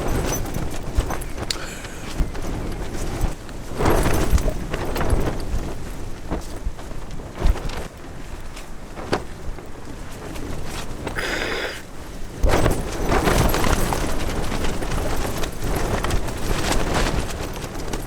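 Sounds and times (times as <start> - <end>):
fabric rustle: 0.0 - 18.0
tent fabric snapping and flapping: 0.0 - 18.0
wind buffeting a tent: 0.0 - 18.0.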